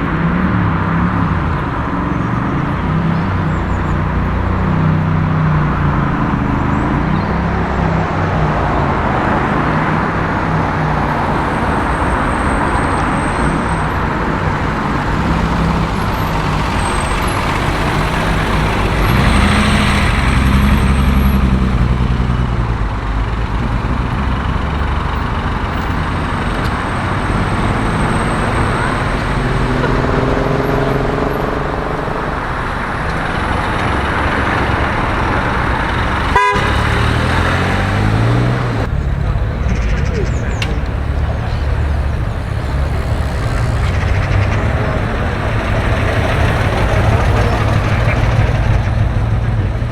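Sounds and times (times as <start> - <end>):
car engines passing: 0.0 - 49.9
engine accelerating: 0.0 - 49.9.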